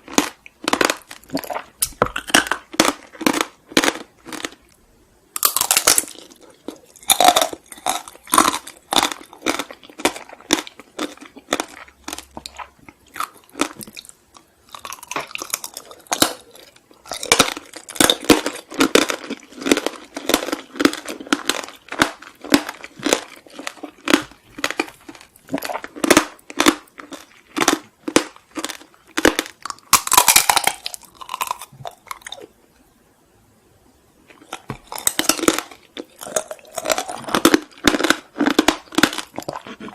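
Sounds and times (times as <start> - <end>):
crunchy chewing: 0.0 - 4.8, 5.4 - 32.5, 34.3 - 39.9.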